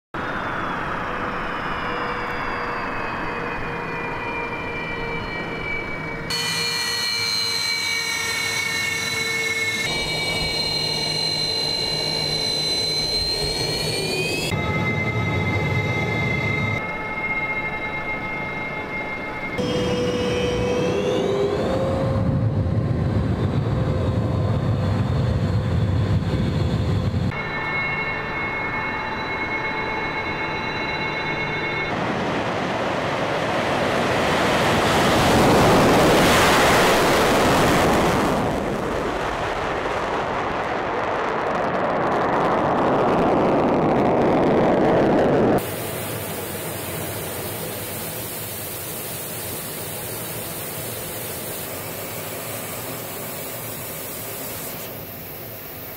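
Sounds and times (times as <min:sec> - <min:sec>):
jet taking off roar: 0:00.2 - 0:17.4, 0:18.6 - 0:27.4, 0:31.2 - 0:55.9
jet engine whine and rumble: 0:00.2 - 0:55.9.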